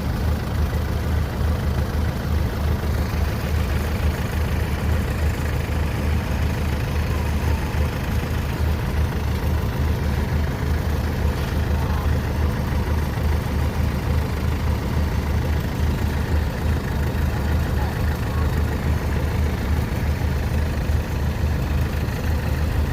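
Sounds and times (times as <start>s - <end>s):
diesel engine throbbing: 0.0s - 22.9s.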